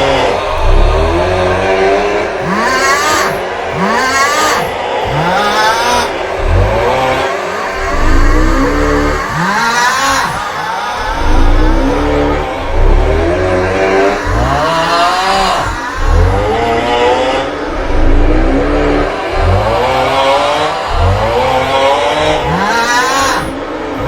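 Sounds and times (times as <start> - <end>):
groaning snore-like vocal: 0.0 - 24.0
heavy bass: 0.0 - 24.0.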